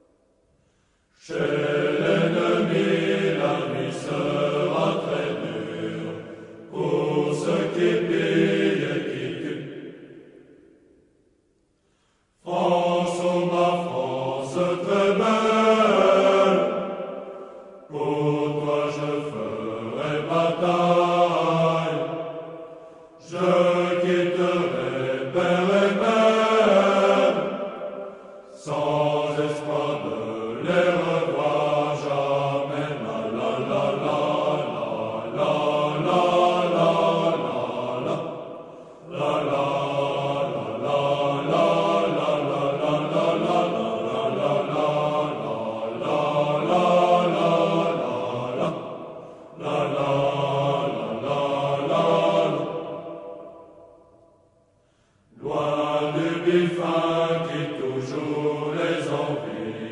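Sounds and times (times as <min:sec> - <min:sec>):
sung vocal music: 0:00.0 - 0:11.2, 0:11.8 - 0:59.9.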